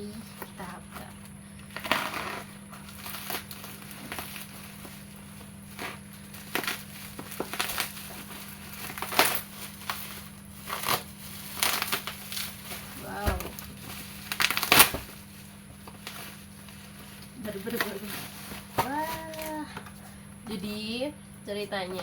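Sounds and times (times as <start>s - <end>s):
packaging crinkling and rustling: 0.3s - 19.7s.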